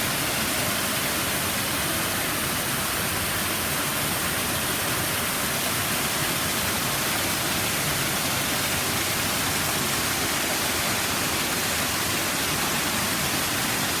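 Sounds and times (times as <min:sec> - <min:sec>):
water splashing over waterfall: 0:00.0 - 0:14.0.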